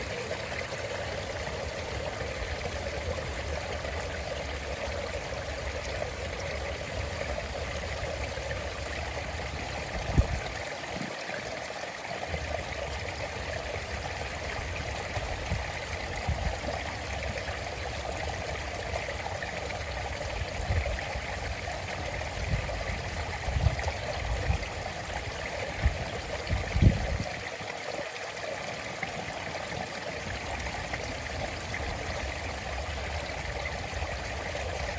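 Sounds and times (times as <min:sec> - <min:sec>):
stream flowing: 0:00.0 - 0:34.9.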